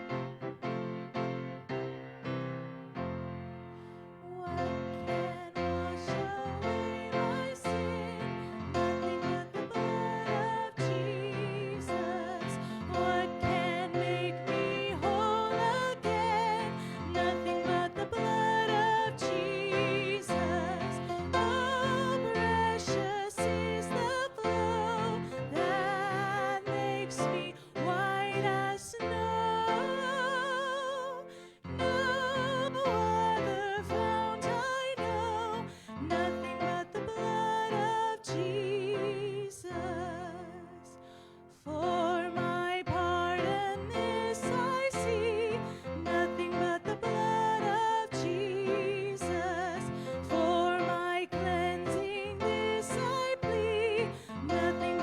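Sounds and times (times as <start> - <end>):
person singing with vibrato: 4.1 - 55.0.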